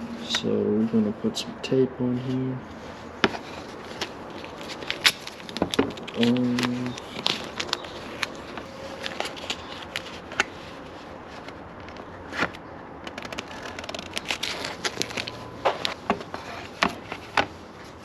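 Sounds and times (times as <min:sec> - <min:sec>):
hands handling plastic and tape: 0:02.8 - 0:18.0.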